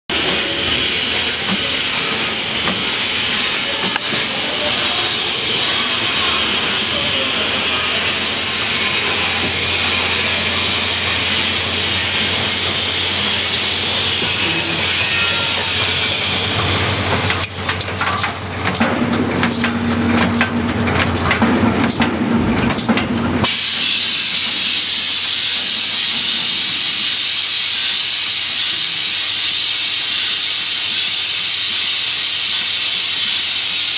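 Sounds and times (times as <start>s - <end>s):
bottling machinery hissing: 0.1s - 18.6s, 23.4s - 33.9s.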